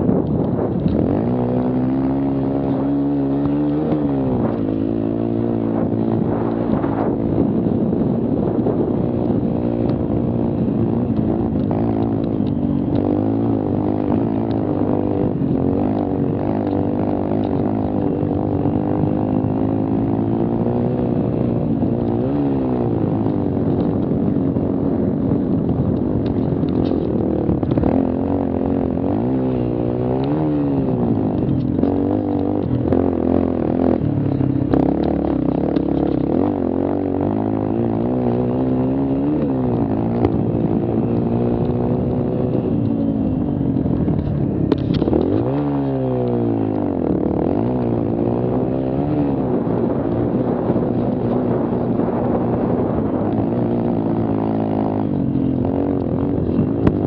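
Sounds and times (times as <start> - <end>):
small quad engine revving: 0.0 - 57.0.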